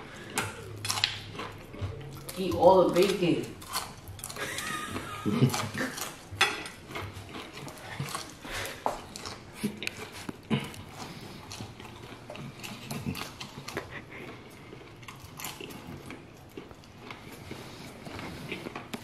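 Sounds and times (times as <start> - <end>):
man chewing bacon: 0.0 - 19.0.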